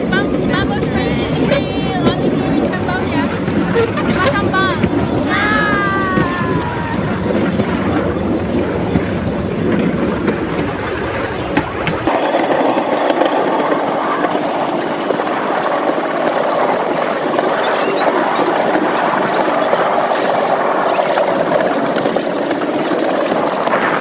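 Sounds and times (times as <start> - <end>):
rail vehicle rumbling on track: 0.0 - 24.0.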